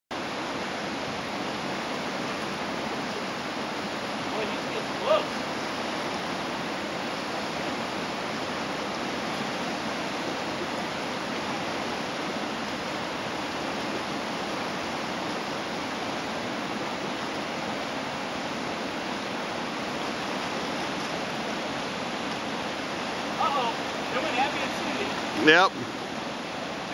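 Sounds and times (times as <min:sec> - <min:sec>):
river rapids rushing: 0:00.2 - 0:26.9.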